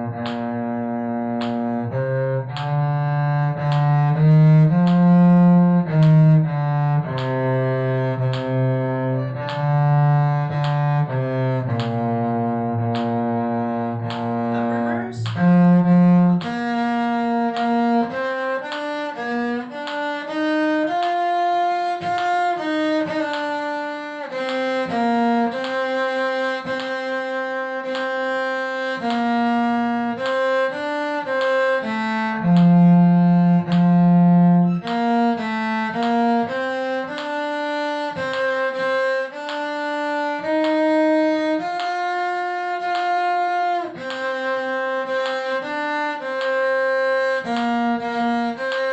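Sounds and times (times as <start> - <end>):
bowed string melody: 0.0 - 48.9.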